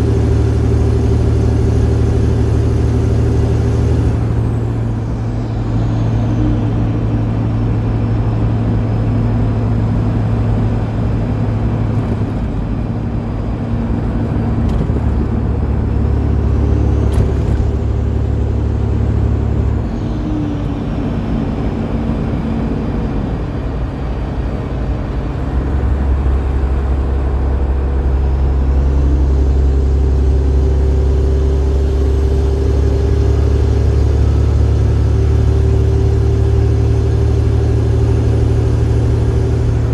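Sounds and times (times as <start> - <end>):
diesel engine under load: 0.0 - 39.9
high engine whine: 0.0 - 39.9.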